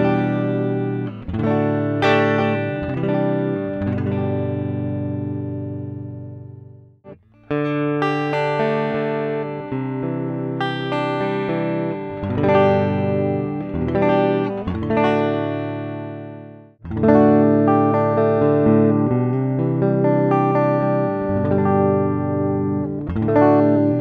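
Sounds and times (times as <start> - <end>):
clean electric guitar chords: 0.0 - 24.0.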